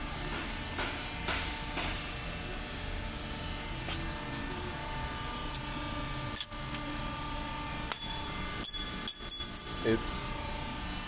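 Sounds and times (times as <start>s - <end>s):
workshop hum: 0.0s - 11.0s.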